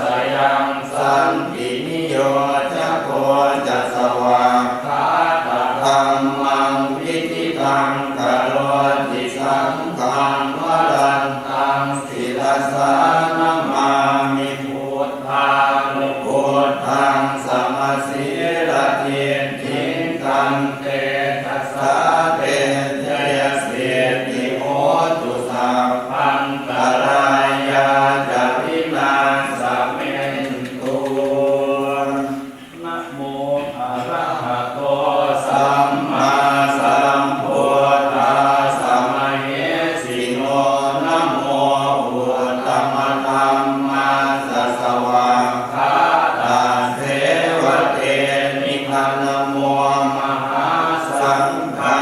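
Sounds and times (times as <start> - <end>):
voices chanting in monotone: 0.0 - 52.0.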